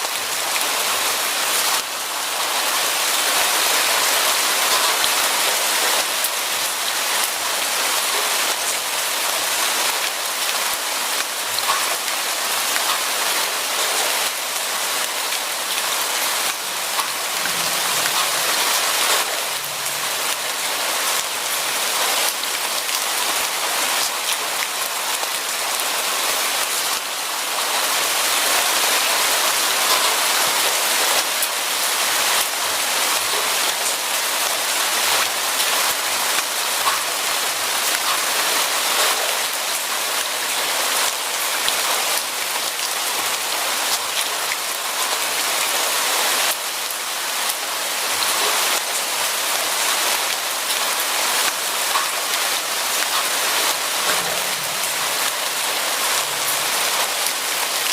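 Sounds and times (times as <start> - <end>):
rain pattering on a surface: 0.0 - 57.9.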